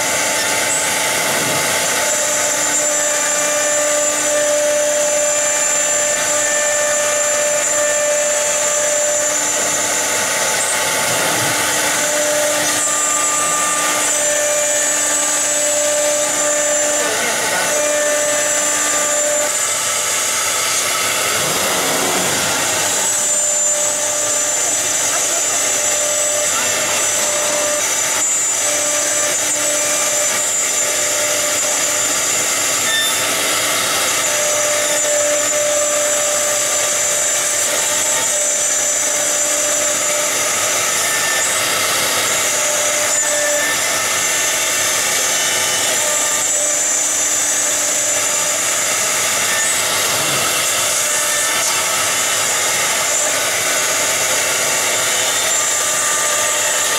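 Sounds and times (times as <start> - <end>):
router bits cutting board: 0.0 - 56.9
wood router spindles whining: 0.0 - 56.9.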